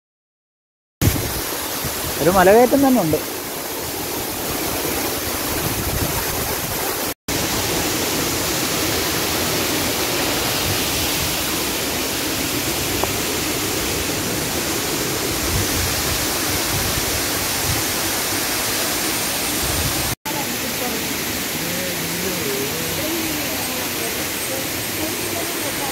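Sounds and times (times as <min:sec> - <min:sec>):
waterfall rushing: 0:01.0 - 0:25.9.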